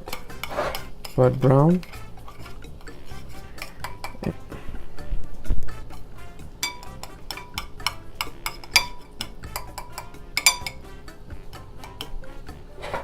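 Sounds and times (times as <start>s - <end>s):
metal cookware clinking and scraping: 0.0s - 11.2s, 11.8s - 13.0s.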